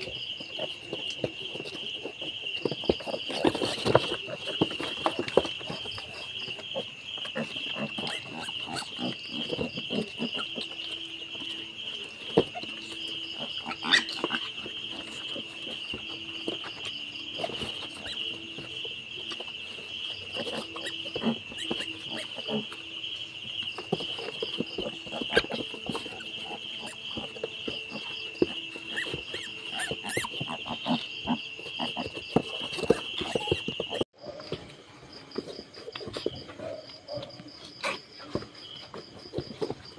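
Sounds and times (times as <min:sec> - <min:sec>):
high insect chirring: 0:00.0 - 0:34.0
piglets grunting and squeaking: 0:00.5 - 0:34.6.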